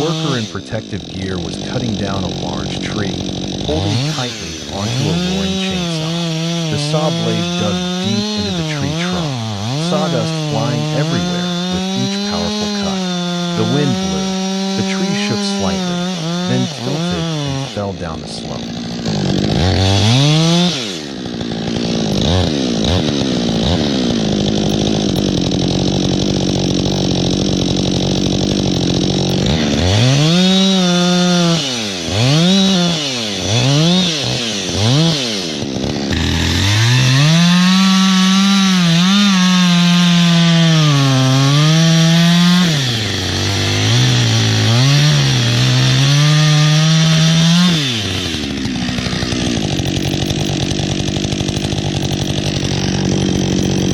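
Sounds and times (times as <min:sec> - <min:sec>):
chainsaw cutting wood: 0:00.0 - 0:53.9
chainsaw engine revving: 0:00.0 - 0:53.9.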